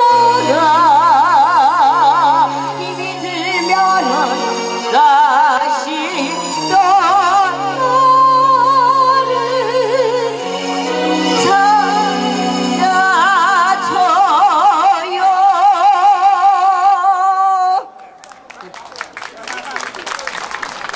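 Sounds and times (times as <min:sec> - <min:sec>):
backing track music: 0:00.0 - 0:17.4
woman singing with vibrato: 0:00.0 - 0:17.9.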